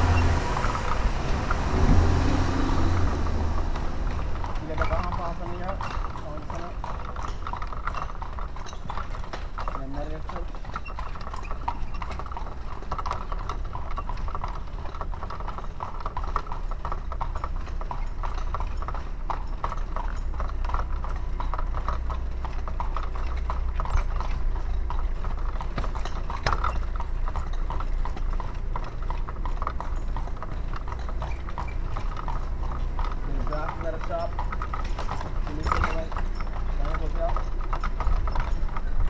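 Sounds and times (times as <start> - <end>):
horse hooves on pavement: 0.0 - 39.0.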